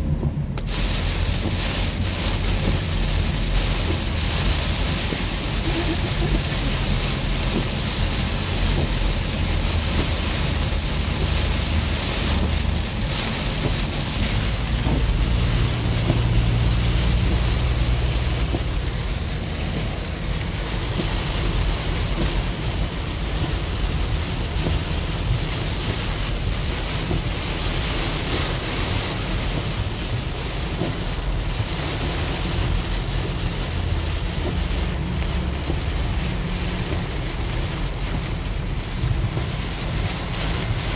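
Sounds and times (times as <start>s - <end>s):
heavy rain on car roof: 0.0s - 40.9s
tyres rumbling on wet road: 0.0s - 40.9s
wind: 0.0s - 40.9s.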